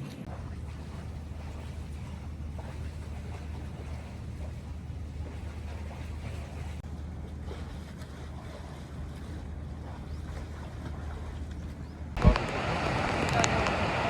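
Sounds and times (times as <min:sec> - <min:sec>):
boat engine humming: 0:00.0 - 0:14.0
water noise: 0:00.0 - 0:14.0
wind: 0:00.0 - 0:14.0.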